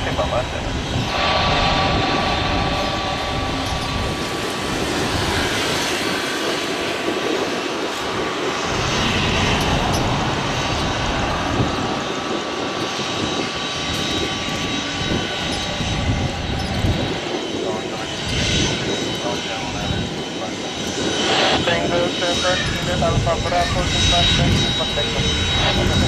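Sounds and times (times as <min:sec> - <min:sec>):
high engine whine: 0:00.0 - 0:26.0
jet engine rumble: 0:00.0 - 0:26.0.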